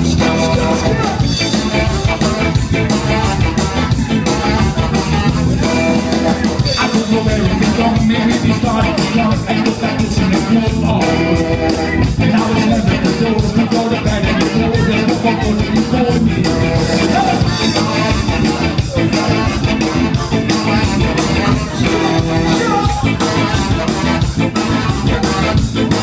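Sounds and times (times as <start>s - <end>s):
saxophone: 0.0s - 6.9s, 8.0s - 12.3s, 16.2s - 26.0s
live rock band playing: 0.0s - 26.0s
man singing: 0.0s - 26.0s.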